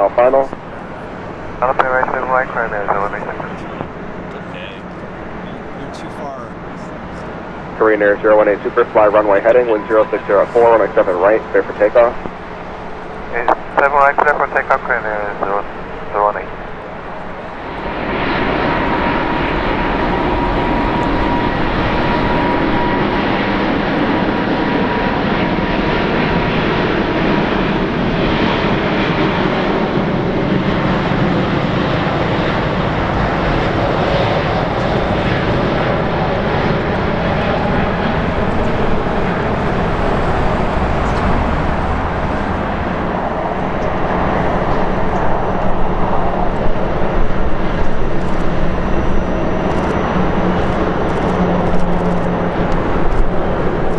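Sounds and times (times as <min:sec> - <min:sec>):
faint engine whine: 0:00.0 - 0:53.9
loud jet engine noise: 0:00.0 - 0:53.9.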